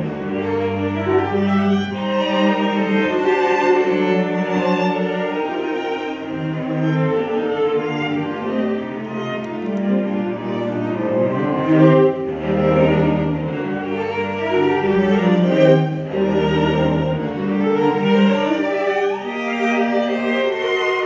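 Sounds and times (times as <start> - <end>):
cello long low notes: 0.0 - 21.0
viola: 0.0 - 21.0
violins: 0.0 - 21.0.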